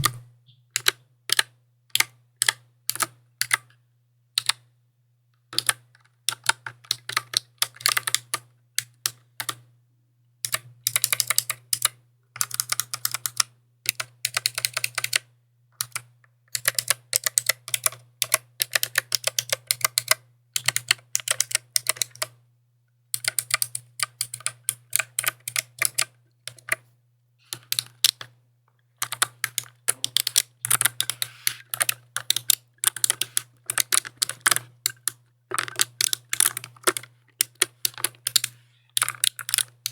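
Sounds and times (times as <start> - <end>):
mechanical keyboard typing: 0.0 - 0.2, 0.8 - 3.7, 5.6 - 9.6, 10.5 - 22.4, 23.2 - 26.8, 27.5 - 28.3, 29.0 - 39.9.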